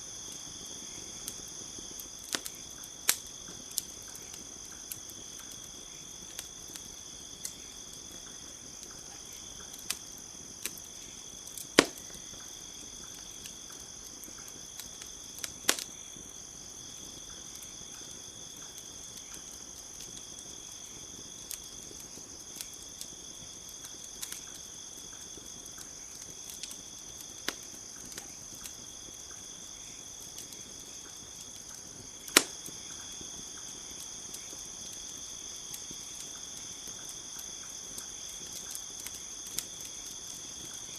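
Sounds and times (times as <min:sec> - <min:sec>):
insects chirring: 0:00.0 - 0:40.9
campfire crackling and popping: 0:00.1 - 0:40.9.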